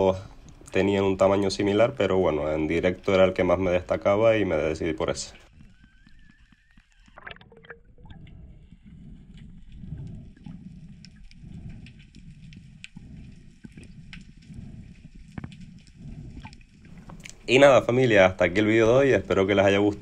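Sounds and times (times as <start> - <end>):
faint clicks: 0.0 - 2.1, 4.9 - 20.0
bubbly gurgle: 0.0 - 20.0
underwater rush of water: 0.0 - 20.0.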